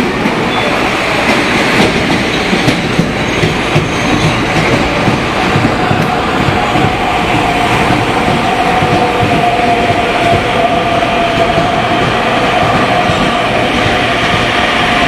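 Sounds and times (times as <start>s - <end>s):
train wheels clattering: 0.0s - 15.0s.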